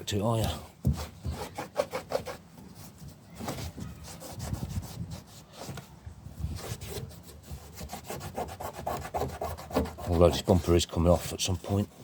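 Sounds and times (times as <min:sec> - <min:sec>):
rubbing strokes on a surface: 0:00.8 - 0:12.0.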